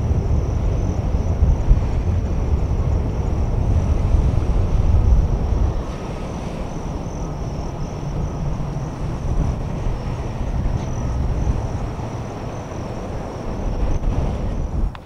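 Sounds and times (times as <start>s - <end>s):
jet engines rumbling: 0.0s - 15.0s
thin high whine: 0.0s - 15.0s.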